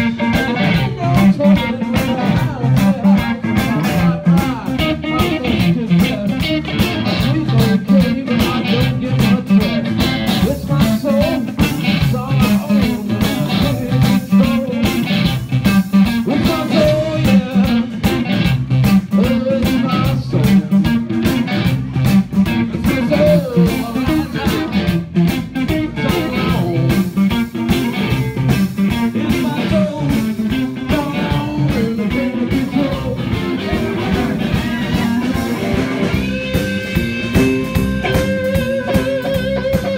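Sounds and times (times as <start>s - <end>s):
drum hits: 0.0s - 39.9s
electric guitar: 0.0s - 39.9s
live blues band: 0.0s - 39.9s.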